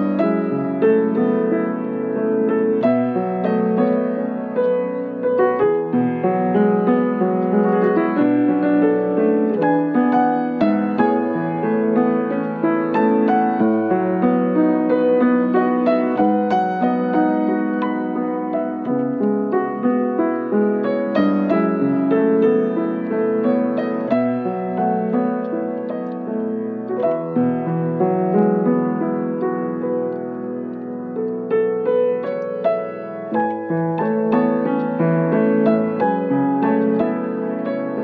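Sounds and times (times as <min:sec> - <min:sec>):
slow piano piece: 0:00.0 - 0:38.0.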